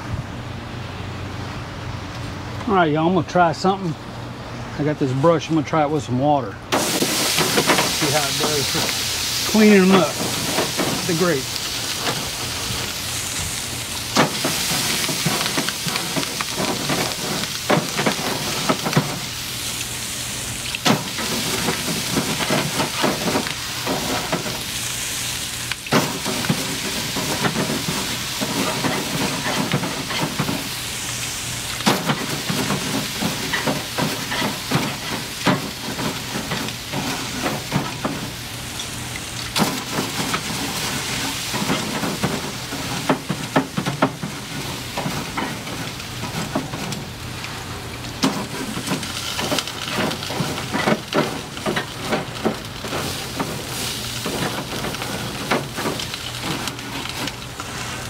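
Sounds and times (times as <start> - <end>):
water sizzling on hot grill: 6.7 - 58.0
brush scraping grill grates: 6.8 - 58.0.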